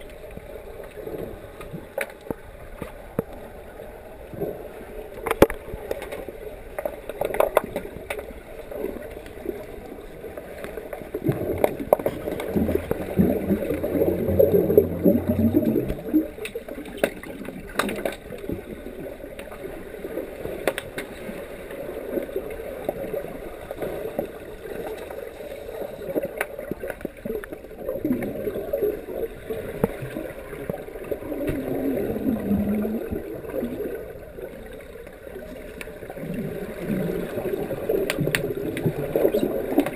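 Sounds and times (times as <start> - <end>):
underwater gurgling and sloshing: 0.0 - 39.9.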